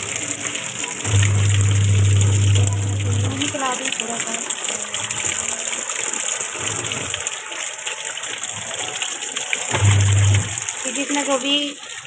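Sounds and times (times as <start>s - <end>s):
water pouring into washing machine tub: 0.0s - 12.0s.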